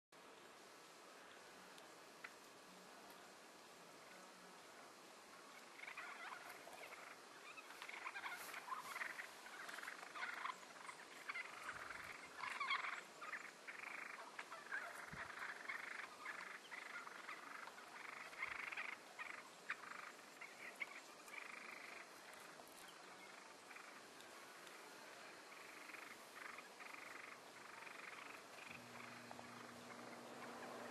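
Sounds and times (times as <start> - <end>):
turkeys rattling chatter: 5.5 - 24.9, 25.5 - 30.9.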